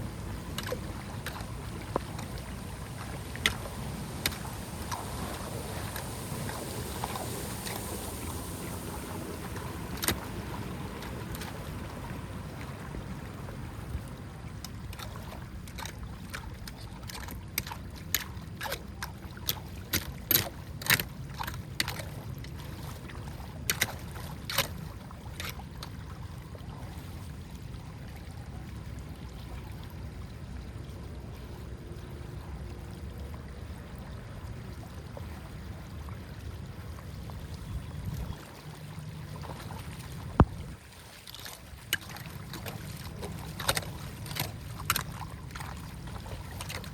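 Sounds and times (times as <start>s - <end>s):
water rushing through channel: 0.0s - 46.9s.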